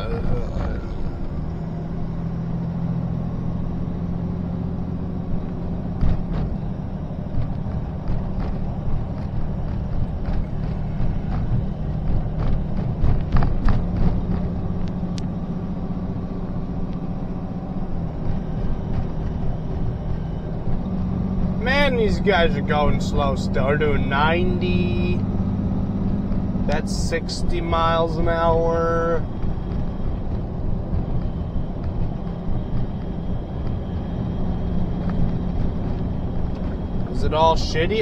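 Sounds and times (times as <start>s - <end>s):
diesel truck engine drone: 0.0s - 38.0s
road noise: 0.0s - 38.0s.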